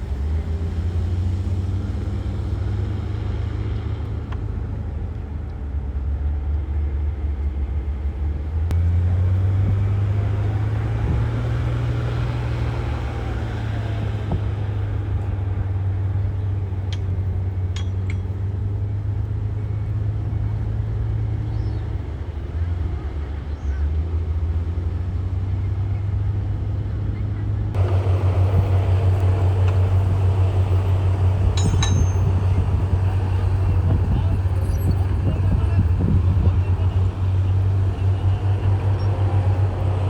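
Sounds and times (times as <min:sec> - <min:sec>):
diesel engine under load: 0:00.0 - 0:40.0.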